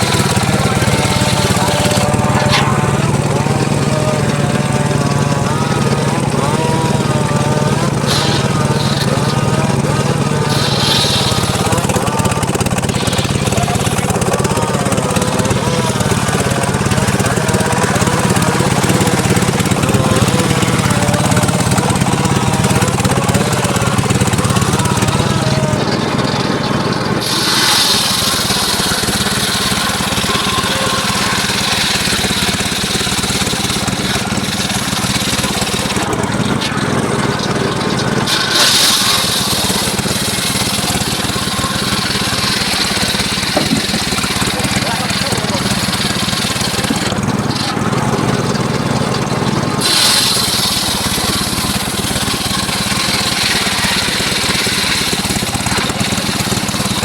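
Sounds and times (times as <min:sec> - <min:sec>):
engine drone: 0:00.0 - 0:57.0
saw blade cutting wood: 0:00.0 - 0:57.0.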